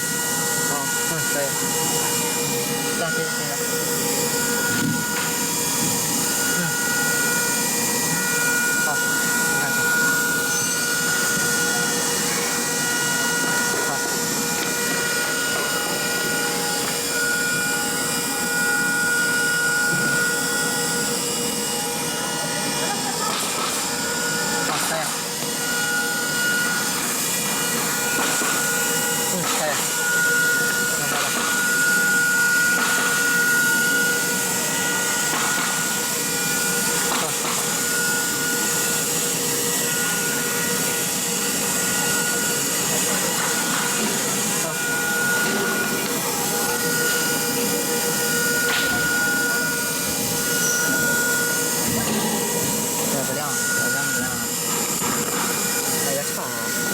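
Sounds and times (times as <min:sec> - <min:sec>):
machine cutting hiss: 0:00.0 - 0:56.9
router spindle whine: 0:00.0 - 0:56.9.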